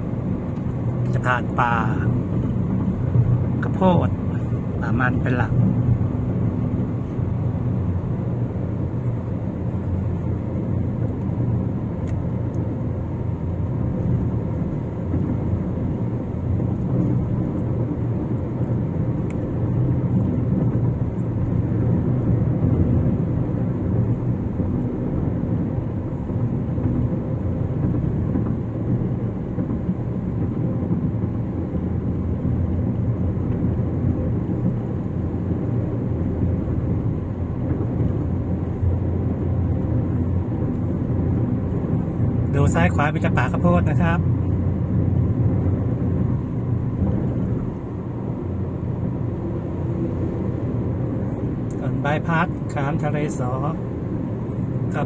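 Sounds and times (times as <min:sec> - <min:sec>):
car tyres and engine rumble: 0:00.0 - 0:55.0.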